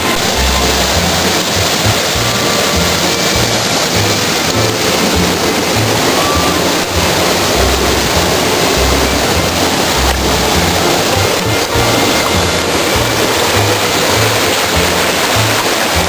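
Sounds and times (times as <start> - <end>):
background music bass line: 0.0 - 16.0
waterfall rushing: 0.0 - 16.0.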